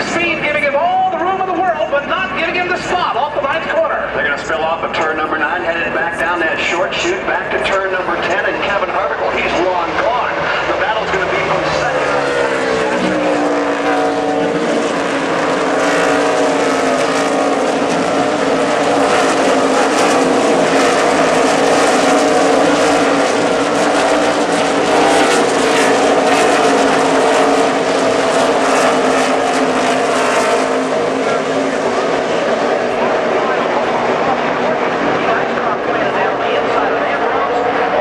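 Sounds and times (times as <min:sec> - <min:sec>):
race car engines roaring past: 0:00.0 - 0:38.0.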